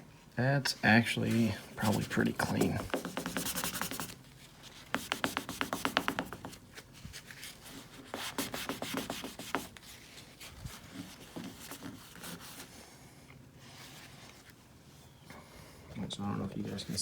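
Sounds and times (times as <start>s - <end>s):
cloth wiping painted panel: 0.9s - 15.0s.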